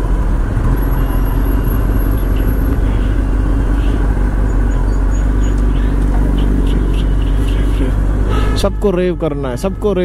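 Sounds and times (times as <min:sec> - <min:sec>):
motorcycle engine cruising: 0:00.0 - 0:08.6
wind and road noise: 0:00.0 - 0:10.0.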